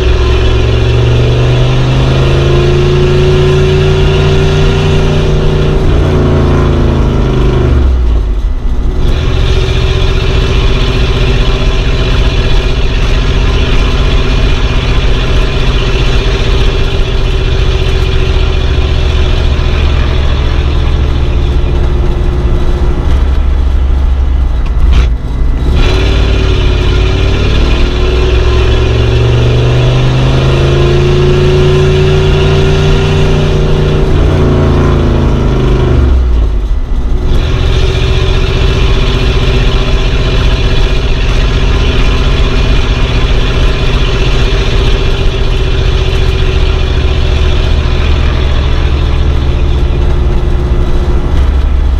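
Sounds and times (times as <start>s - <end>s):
old car engine revving: 0.0s - 51.9s.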